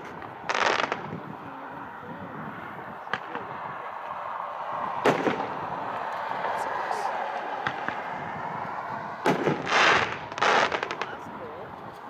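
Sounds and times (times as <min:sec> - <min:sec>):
fireworks cracks and bangs: 0:00.0 - 0:01.4, 0:02.9 - 0:12.0
faint crowd voices: 0:00.0 - 0:12.0.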